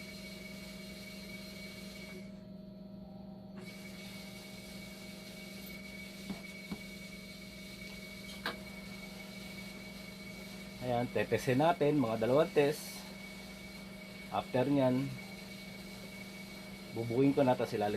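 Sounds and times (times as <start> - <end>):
faint steady whine: 0.0 - 17.9
machine humming: 0.0 - 17.9.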